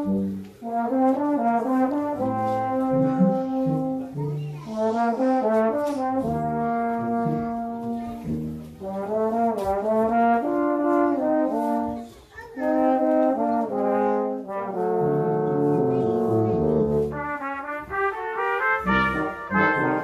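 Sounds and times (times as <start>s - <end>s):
brass quintet playing a tango: 0.0s - 20.0s.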